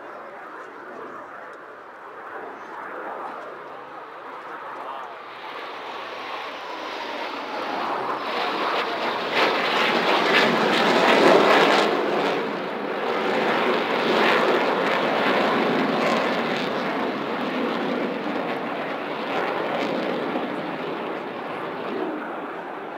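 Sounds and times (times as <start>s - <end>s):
jet aircraft roar passing: 0.1s - 22.9s.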